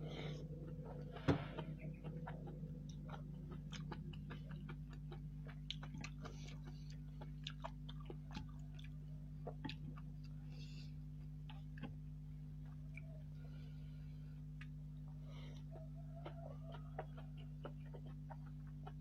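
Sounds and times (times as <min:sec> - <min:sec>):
steady low hum: 0:00.0 - 0:19.0
wet chewing and smacking: 0:00.2 - 0:13.6, 0:14.4 - 0:19.0.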